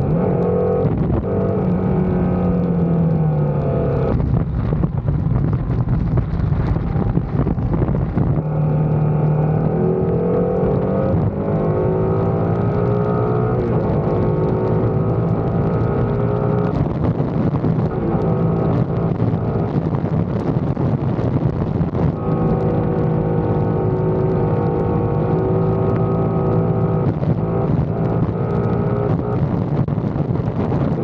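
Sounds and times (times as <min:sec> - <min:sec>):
motorcycle engine cruising: 0:00.0 - 0:31.0
steady rushing noise: 0:00.0 - 0:31.0.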